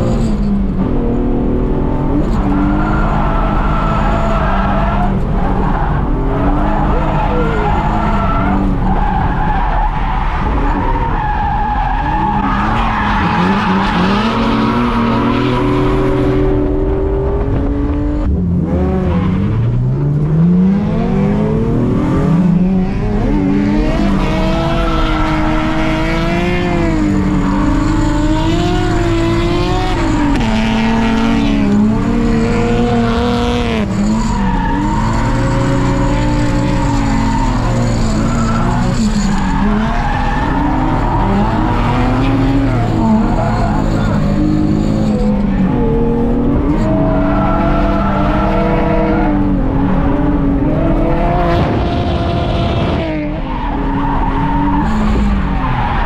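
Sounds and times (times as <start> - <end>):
car engine revving: 0.0 - 56.0
tires squealing and skidding: 2.1 - 16.9, 22.0 - 56.0.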